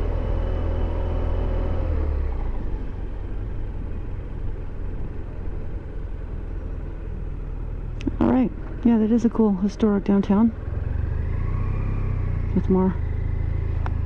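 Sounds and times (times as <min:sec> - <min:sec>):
motorcycle engine droning: 0:00.0 - 0:14.0
road and wind rumble: 0:00.0 - 0:14.0.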